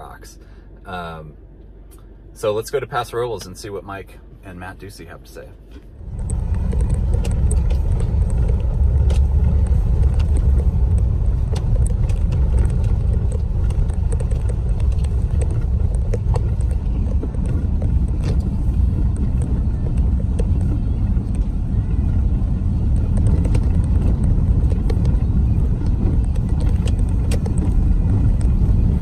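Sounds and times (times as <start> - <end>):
engine and tyres rumbling: 0.0 - 29.0
clicks and knocks from rough road: 5.7 - 29.0.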